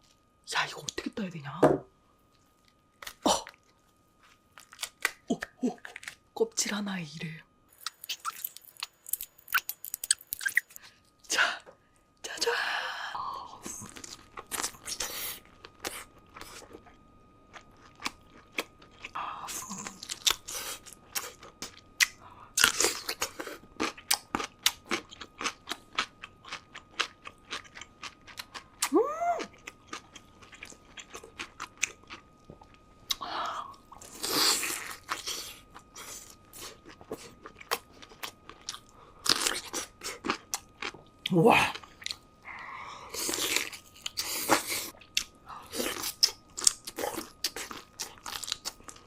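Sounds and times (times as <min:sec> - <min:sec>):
crunching and chewing shrimp: 0:02.5 - 0:06.4, 0:07.7 - 0:11.3, 0:13.6 - 0:49.0.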